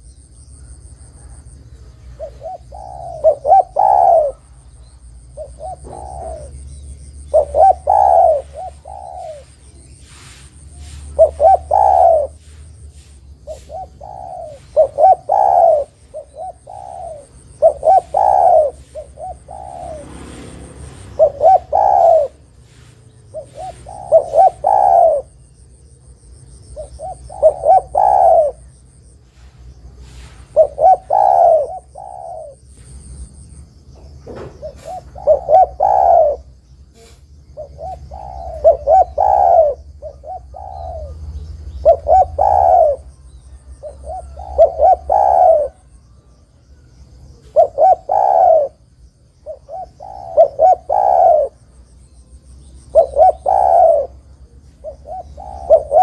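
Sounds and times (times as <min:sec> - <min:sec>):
dove cooing: 0:00.0 - 0:33.4, 0:34.0 - 0:56.0.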